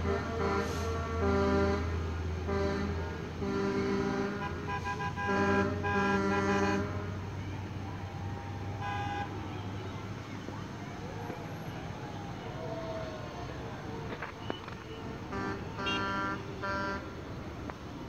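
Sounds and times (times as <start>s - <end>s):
distant truck horns honking: 0.0s - 7.4s, 8.7s - 17.5s.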